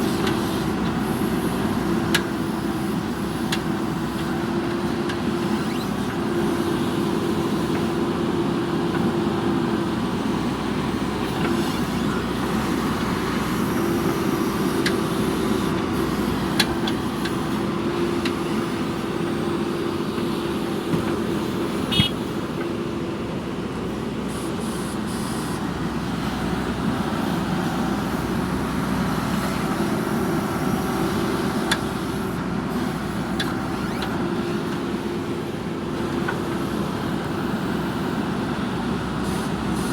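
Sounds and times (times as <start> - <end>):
backhoe diesel engine droning: 0.0 - 39.9.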